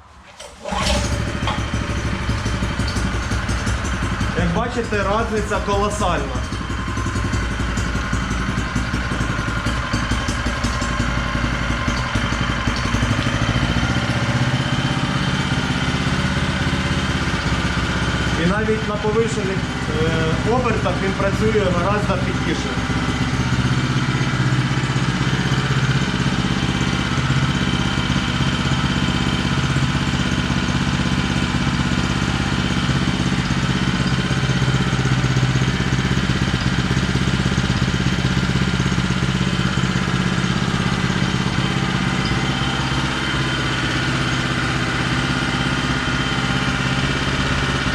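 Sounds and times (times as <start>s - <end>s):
engine running at raised revs: 0.7s - 47.9s.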